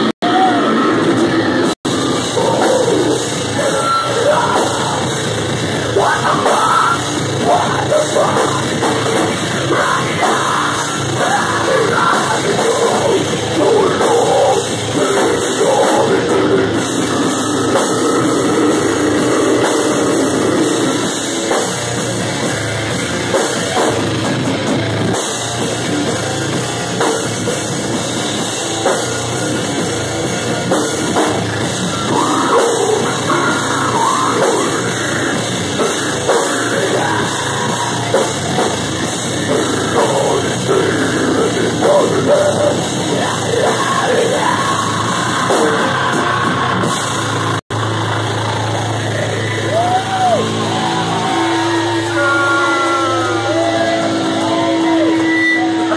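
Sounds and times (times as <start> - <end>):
amplified guitars: 0.0 - 55.9
pounding drum kit: 0.0 - 55.9.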